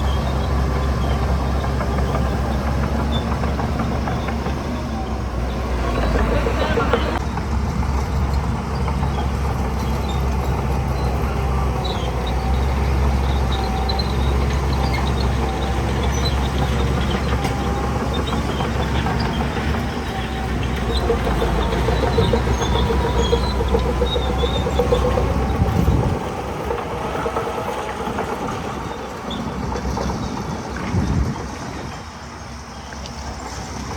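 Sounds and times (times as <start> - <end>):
diesel machinery deep rumble: 0.0 - 33.9.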